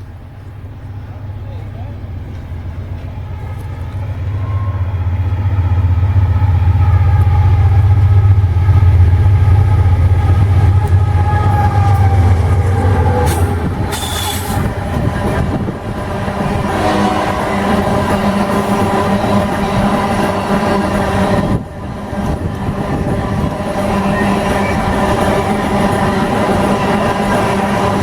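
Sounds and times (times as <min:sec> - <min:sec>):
locomotive engine rumble: 0:00.0 - 0:28.0.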